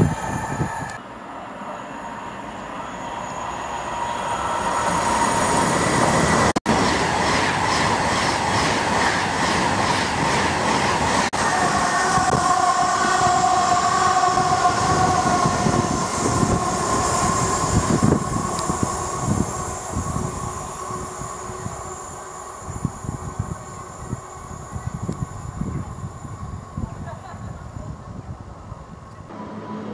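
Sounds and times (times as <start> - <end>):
train running on rails: 0.0 - 29.9.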